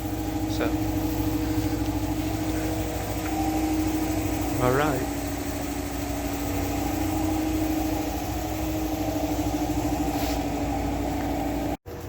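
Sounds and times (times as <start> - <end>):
machine humming with flutter: 0.0 - 12.0.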